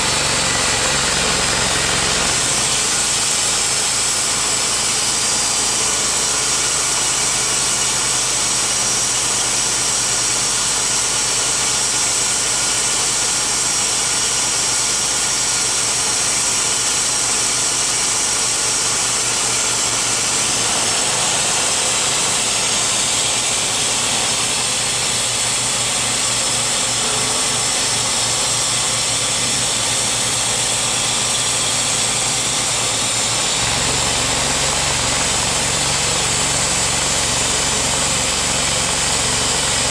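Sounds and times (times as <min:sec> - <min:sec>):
bandsaw mill running: 0:00.0 - 0:39.9.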